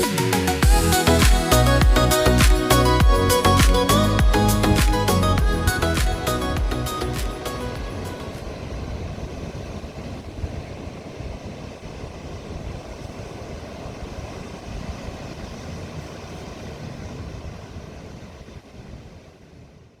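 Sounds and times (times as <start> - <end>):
low rumbling outdoor noise: 0.0 - 19.8.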